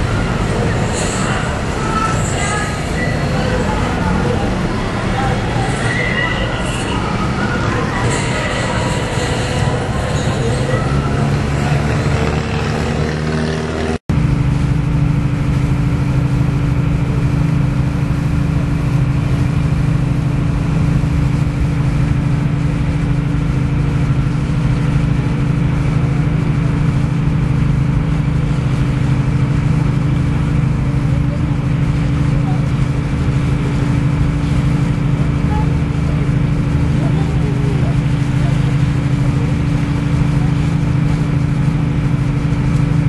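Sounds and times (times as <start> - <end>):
boat engine droning: 0.0 - 43.0.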